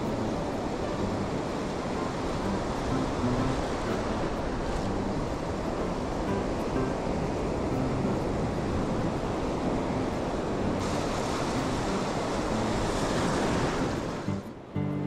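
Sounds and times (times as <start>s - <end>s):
ocean surf breaking on sand: 0.0s - 15.0s.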